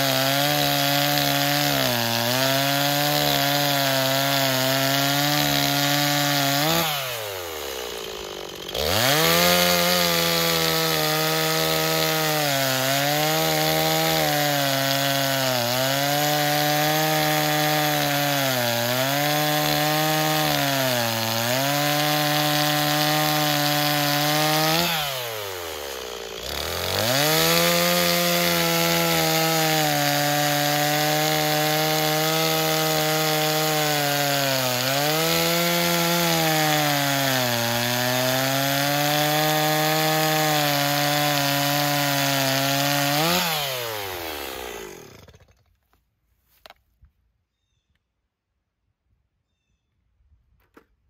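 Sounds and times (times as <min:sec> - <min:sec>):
chainsaw cutting logs: 0:00.0 - 0:46.0.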